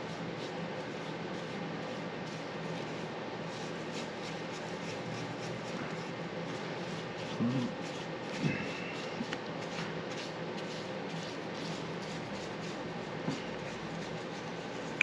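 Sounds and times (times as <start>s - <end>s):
paintbrush swishing: 0.0s - 15.0s.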